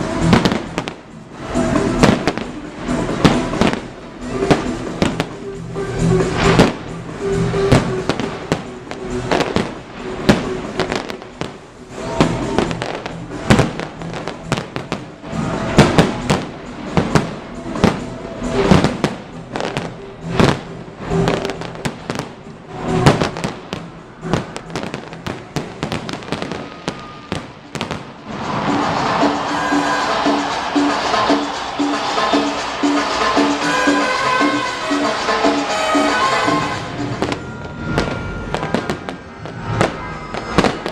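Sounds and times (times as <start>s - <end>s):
fireworks bursting with loud bangs: 0.0s - 40.9s
music playing: 0.0s - 40.9s.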